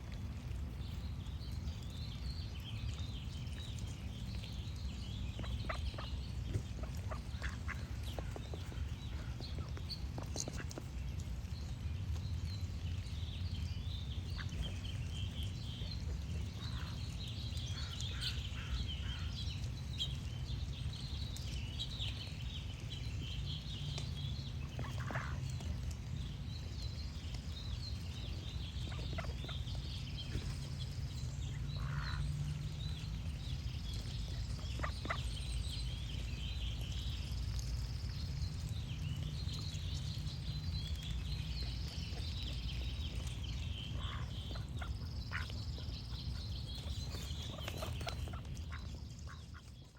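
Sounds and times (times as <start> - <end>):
songbirds chirping and singing: 0.0 - 49.9
steady low rumble: 0.0 - 49.9.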